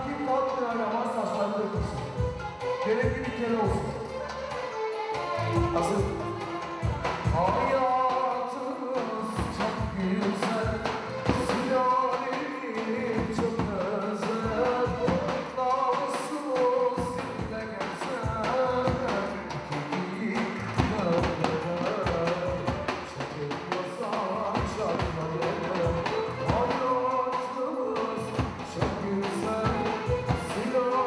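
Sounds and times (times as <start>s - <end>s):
lively dance music: 0.0s - 31.0s.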